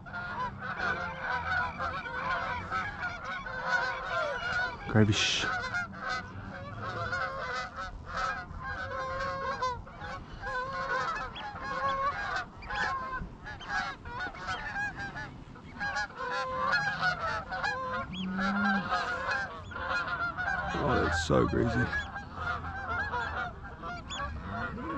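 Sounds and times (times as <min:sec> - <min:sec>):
flock of geese honking: 0:00.0 - 0:24.9.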